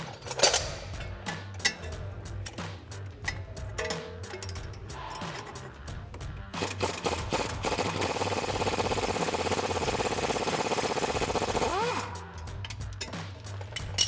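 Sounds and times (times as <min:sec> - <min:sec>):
impact wrench rattling: 0:00.0 - 0:05.8, 0:06.6 - 0:14.0.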